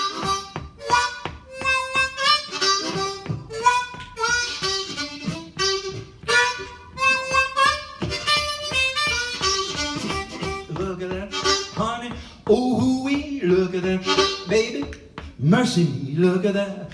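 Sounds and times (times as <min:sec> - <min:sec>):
blues harmonica riff: 0:00.0 - 0:12.5, 0:13.3 - 0:15.1.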